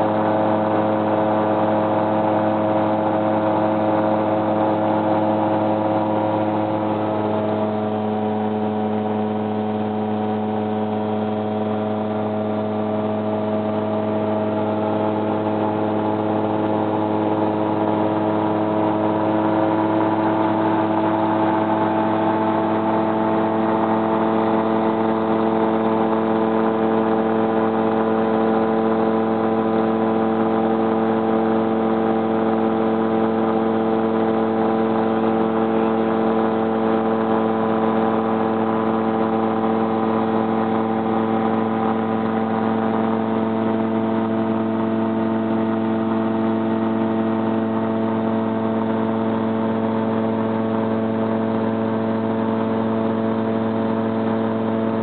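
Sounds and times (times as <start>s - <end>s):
aircraft engine and propeller droning: 0.0s - 55.0s.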